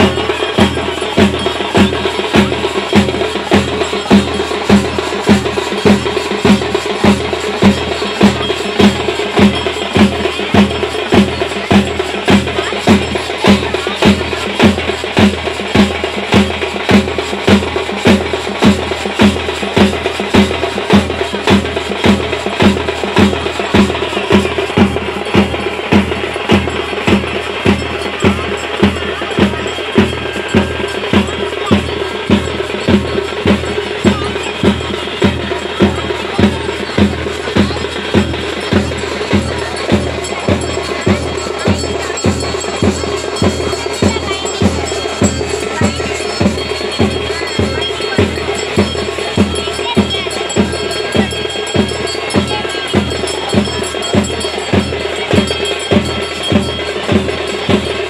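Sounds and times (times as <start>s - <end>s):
continuous din: 0.0s - 58.0s
drums beating steadily: 0.0s - 58.0s.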